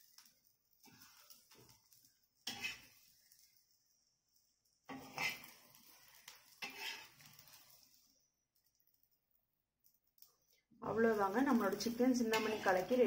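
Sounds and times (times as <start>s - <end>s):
metal spatula scraping griddle: 0.0s - 9.1s, 11.0s - 13.0s
oil sizzling: 0.0s - 13.0s.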